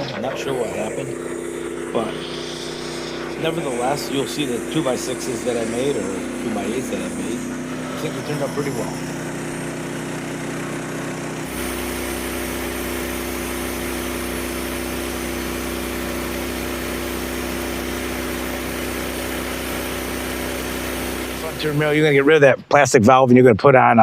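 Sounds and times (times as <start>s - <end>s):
small gasoline engine idling: 0.0s - 22.2s.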